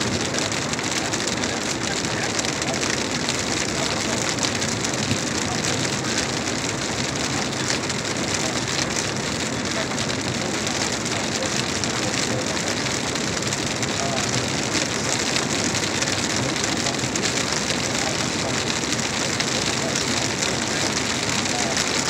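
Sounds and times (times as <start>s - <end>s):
rain on car windshield and roof: 0.0s - 22.0s.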